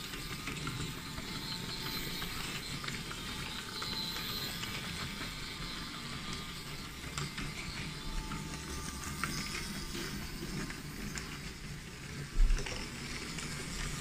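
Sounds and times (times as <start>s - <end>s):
toy train motor whirring: 0.0s - 14.0s.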